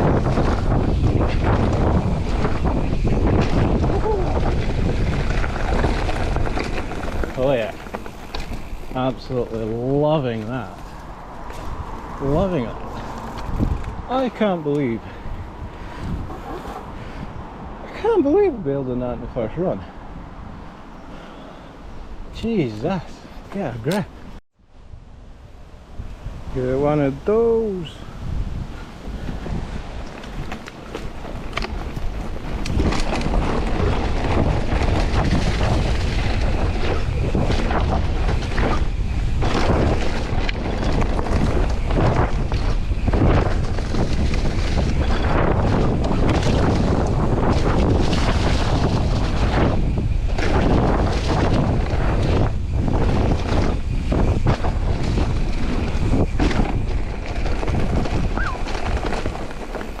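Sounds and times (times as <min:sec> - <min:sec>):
bike rattling over rough trail: 0:00.0 - 0:17.2, 0:26.6 - 1:00.0
bicycle tyre roar: 0:00.0 - 1:00.0
wind buffeting microphone: 0:00.0 - 1:00.0.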